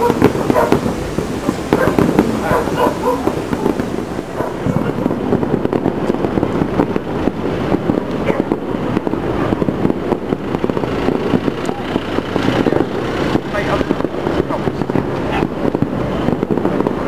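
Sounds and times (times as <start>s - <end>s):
fireworks popping and banging: 0.0s - 17.0s.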